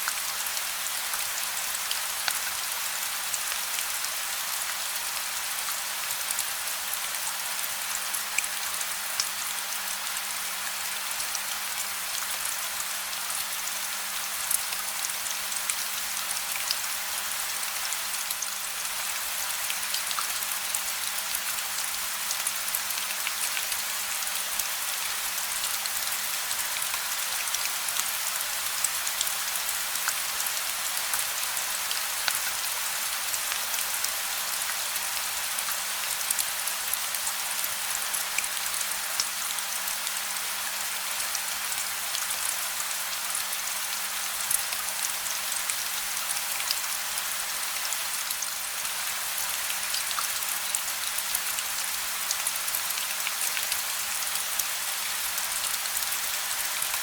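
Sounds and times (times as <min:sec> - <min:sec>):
gentle rain falling: 0:00.0 - 0:57.0.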